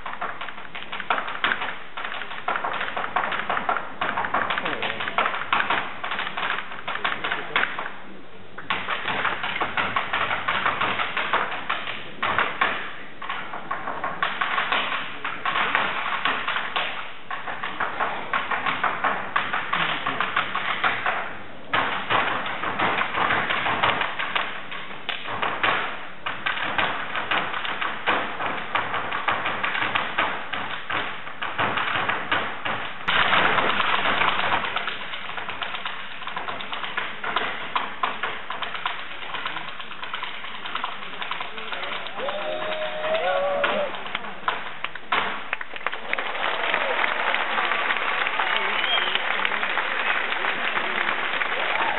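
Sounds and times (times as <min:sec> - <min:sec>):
hard shoes tapping on stage: 0:00.0 - 0:07.9, 0:08.6 - 0:51.9.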